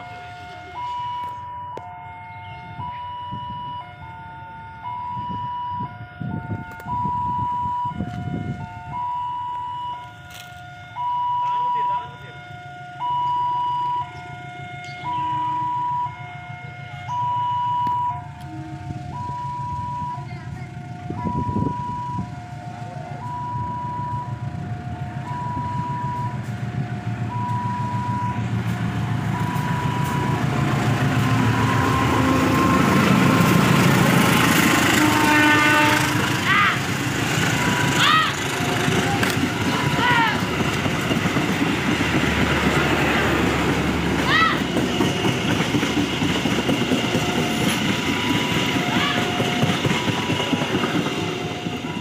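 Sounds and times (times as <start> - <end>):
two-tone crossing alarm: 0.0 - 40.4, 43.0 - 52.0
approaching train rumble: 0.0 - 52.0.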